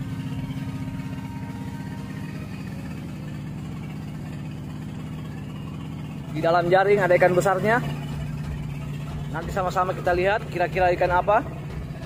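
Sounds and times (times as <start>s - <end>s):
boat engine throbbing: 0.0s - 12.0s.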